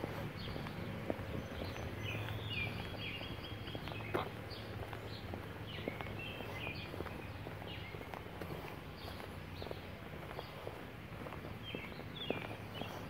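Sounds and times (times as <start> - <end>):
birds chirping: 0.0 - 13.0
footsteps on concrete: 0.0 - 13.0.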